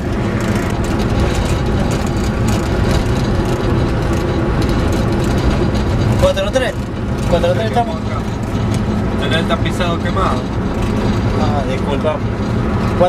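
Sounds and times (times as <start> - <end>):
low hum: 0.0 - 13.0
vehicle engine and road noise: 0.0 - 13.0.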